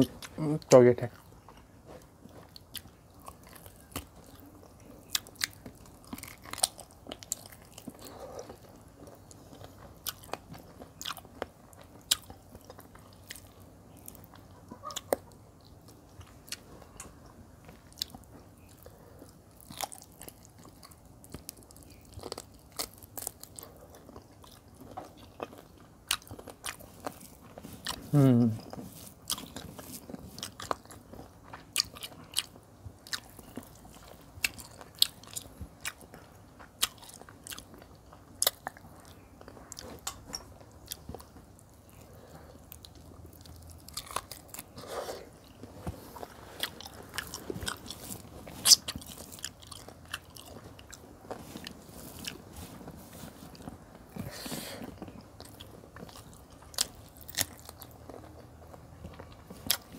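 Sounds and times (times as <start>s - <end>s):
mouth clicks and crunches: 0.0s - 59.9s
wet chewing: 1.2s - 59.9s.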